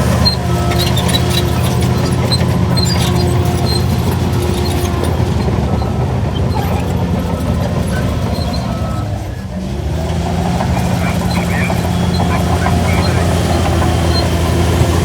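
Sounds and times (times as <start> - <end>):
bulldozer diesel engine under load: 0.0 - 15.0.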